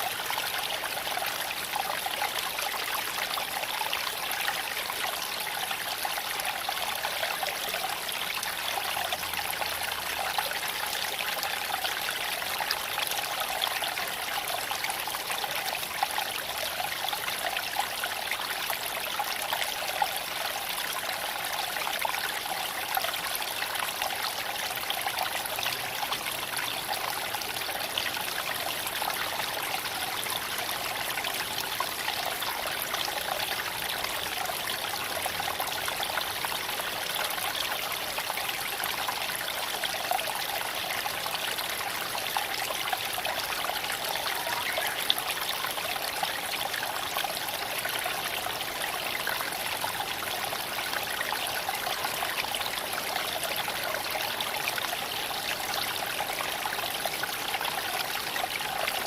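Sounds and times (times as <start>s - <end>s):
creek trickling over stones: 0.0s - 59.0s.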